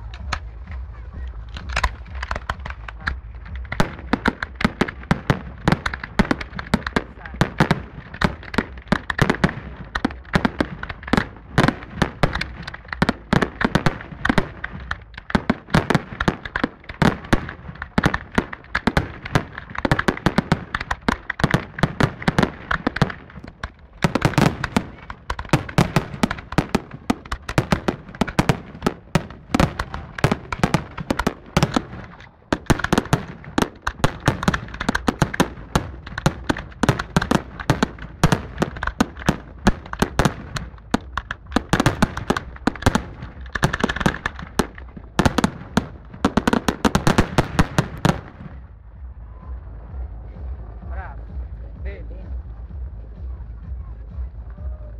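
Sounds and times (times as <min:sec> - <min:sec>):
fireworks crackling: 0:00.0 - 0:53.6
firework shells bursting: 0:01.5 - 0:48.6.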